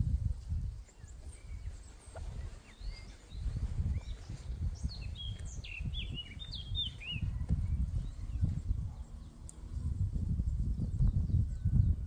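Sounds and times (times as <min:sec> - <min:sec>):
low rumbling on microphone: 0:00.0 - 0:12.0
songbirds chirping: 0:00.0 - 0:12.0.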